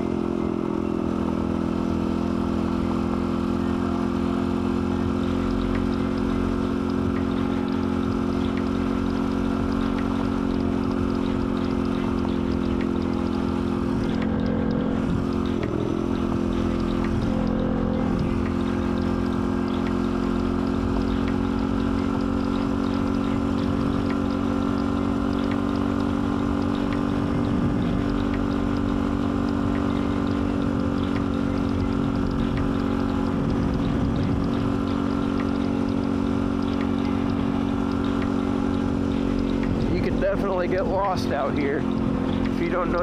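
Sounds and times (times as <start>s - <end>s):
dirt bike engine running: 0.0s - 43.0s.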